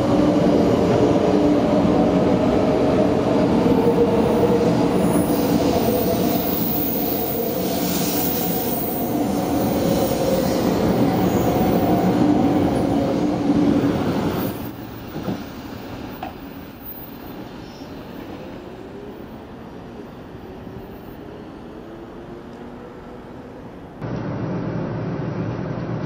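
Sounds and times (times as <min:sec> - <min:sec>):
train rolling noise: 0:00.0 - 0:24.0.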